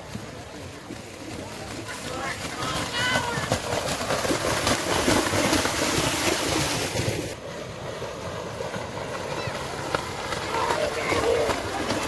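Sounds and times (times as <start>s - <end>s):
hooves splashing through mud: 0.0s - 12.0s.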